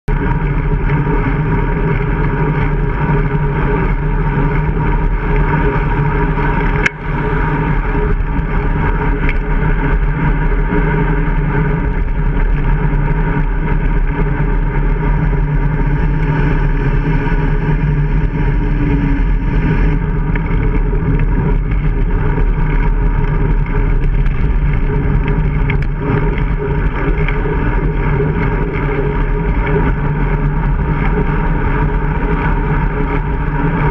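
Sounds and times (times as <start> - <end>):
wind and road noise: 0.1 - 33.9.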